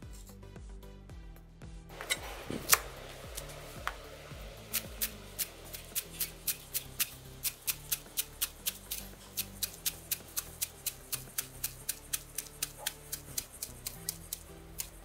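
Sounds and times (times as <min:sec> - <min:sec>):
knife chopping on cutting board: 0:02.0 - 0:04.0, 0:04.7 - 0:15.0.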